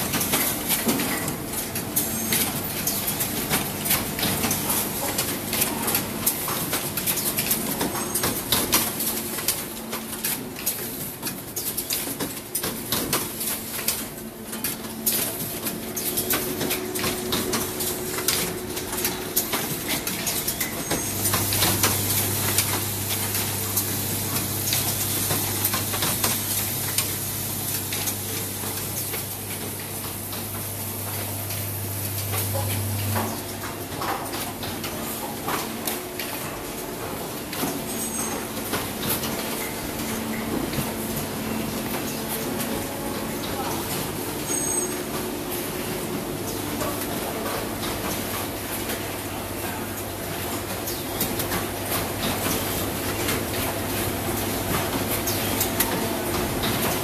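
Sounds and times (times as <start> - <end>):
steady machine hum: 0.0 - 10.5, 13.4 - 57.0
rapid clatter of machine parts: 0.0 - 57.0.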